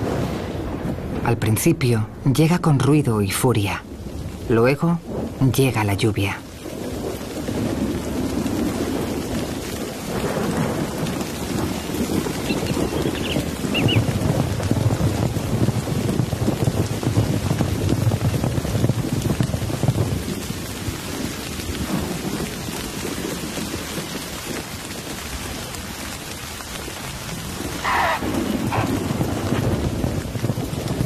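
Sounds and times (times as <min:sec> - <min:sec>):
heavy rain pouring: 0:00.0 - 0:31.0
thunder rumbling: 0:00.0 - 0:31.0.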